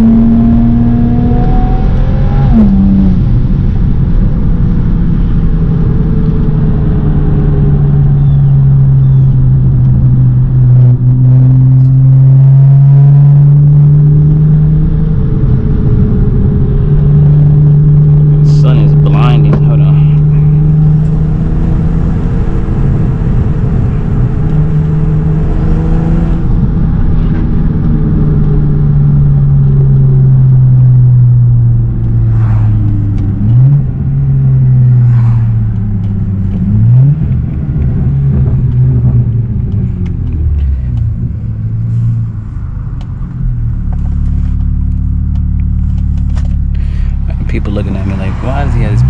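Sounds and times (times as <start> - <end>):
car engine heard from cabin: 0.0 - 49.0.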